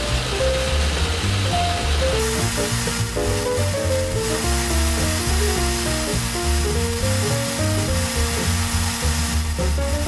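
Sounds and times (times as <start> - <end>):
background music with pulsing bass: 0.0 - 10.0.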